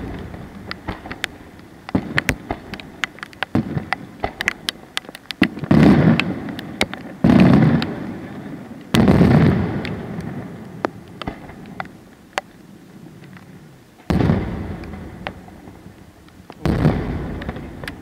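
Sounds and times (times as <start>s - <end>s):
fireworks booms echoing: 0.0s - 12.0s, 14.0s - 18.0s
fireworks popping: 0.0s - 18.0s.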